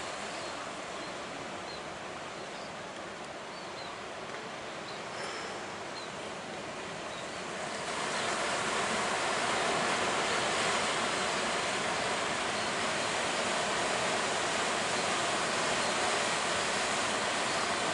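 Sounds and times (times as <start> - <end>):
sea surf rushing: 0.0 - 17.9.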